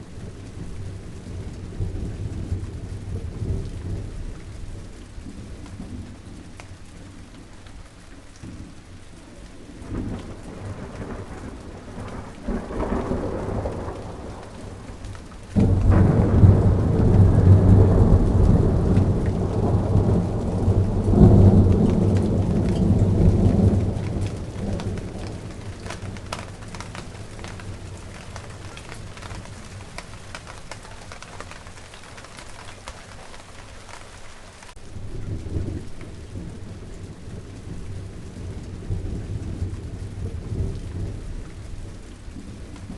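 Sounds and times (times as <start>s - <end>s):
steady rain: 0.0s - 42.9s
thunder rumbling: 0.0s - 42.9s.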